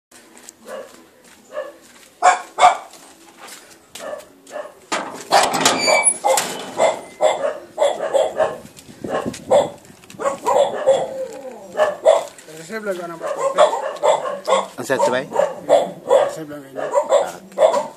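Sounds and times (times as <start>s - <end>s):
dog barking: 0.6s - 3.0s, 4.0s - 12.4s, 13.1s - 17.9s.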